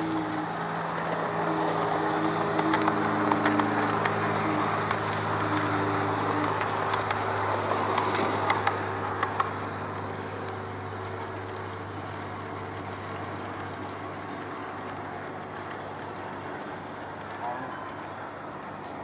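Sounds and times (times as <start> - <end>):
model train motor hum: 0.0 - 19.0
wheels clicking over rail joints: 0.0 - 19.0.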